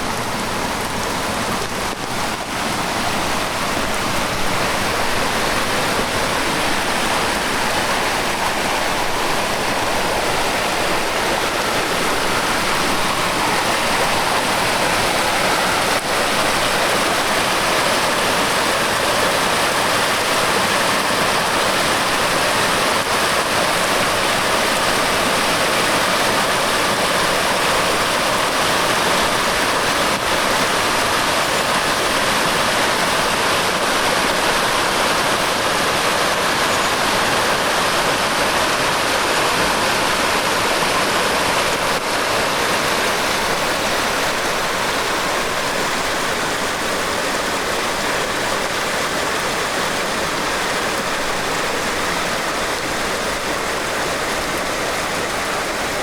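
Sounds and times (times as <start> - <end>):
heavy rain falling: 0.0 - 56.0
stream rushing: 0.0 - 56.0.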